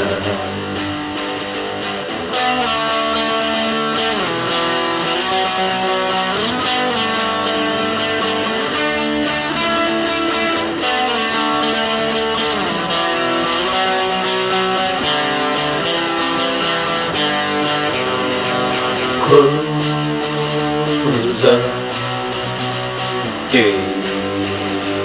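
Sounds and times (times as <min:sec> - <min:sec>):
plucked guitar folk music: 0:00.0 - 0:25.0.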